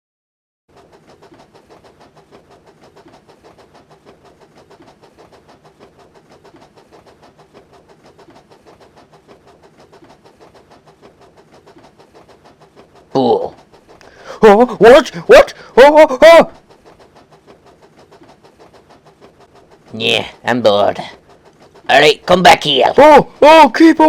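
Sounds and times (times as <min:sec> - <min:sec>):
train rhythmic chugging: 0:00.7 - 0:24.0.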